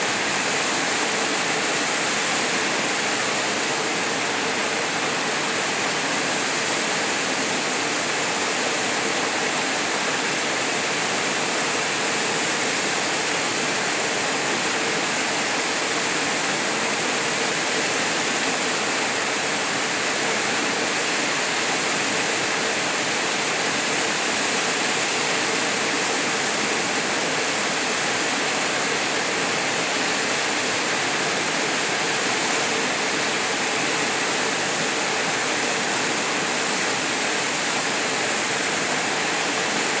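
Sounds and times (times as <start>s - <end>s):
waterfall rushing into a pool: 0.0s - 40.0s.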